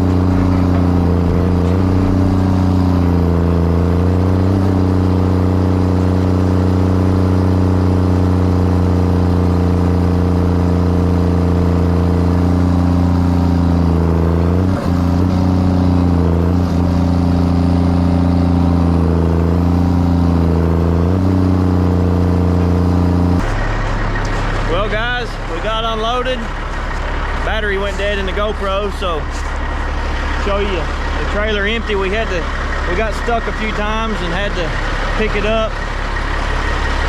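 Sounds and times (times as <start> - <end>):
big diesel engine running: 0.0 - 37.0.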